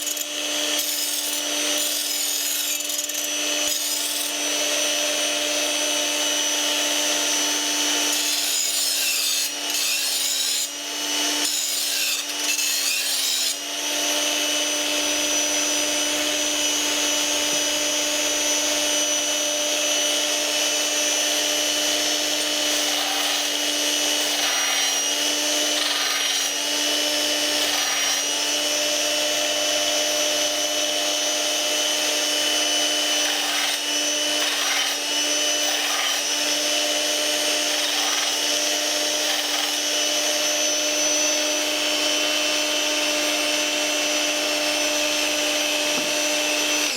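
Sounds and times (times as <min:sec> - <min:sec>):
blade rasping on grinding wheel: 0:00.0 - 0:19.2, 0:19.8 - 0:46.9.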